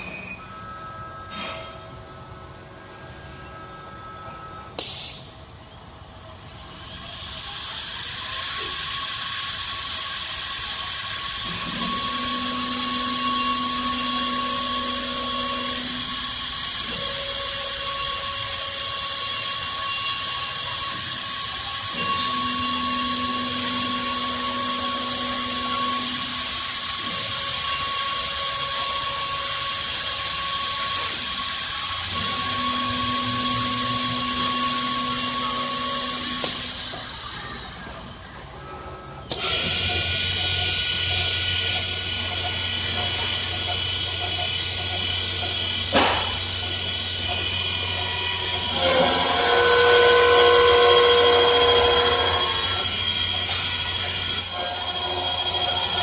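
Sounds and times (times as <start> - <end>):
lower machine tone: 0.0 - 56.0
lathe motor whine: 8.0 - 56.0.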